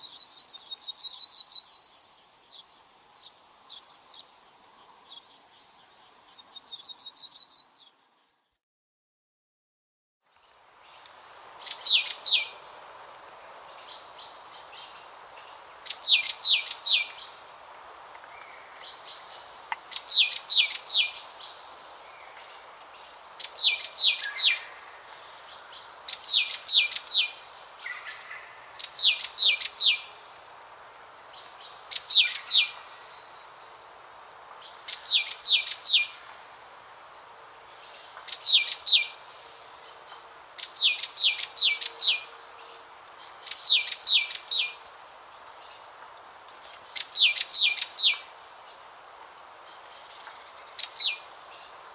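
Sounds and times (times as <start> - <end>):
background hiss: 0.0 - 8.5, 10.3 - 51.9
songbird singing high chirps: 0.0 - 8.6, 10.4 - 36.5, 37.6 - 51.9.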